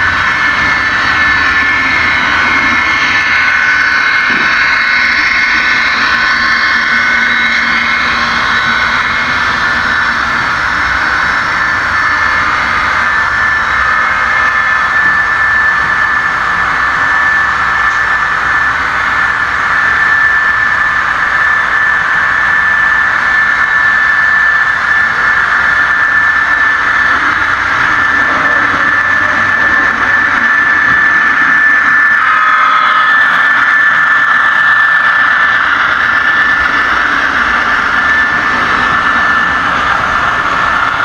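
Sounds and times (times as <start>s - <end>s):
model locomotive engine running: 0.0s - 41.0s.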